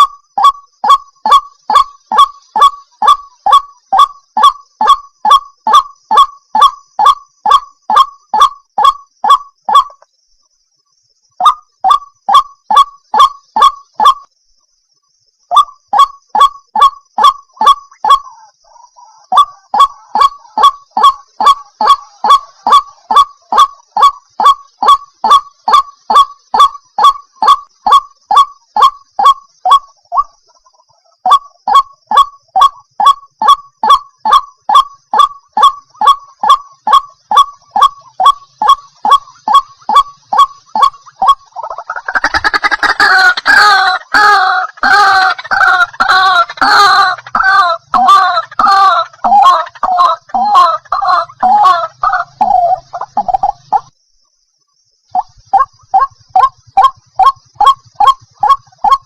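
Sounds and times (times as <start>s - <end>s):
bird croaking calls: 0.0s - 10.1s, 11.2s - 14.3s, 15.4s - 59.0s.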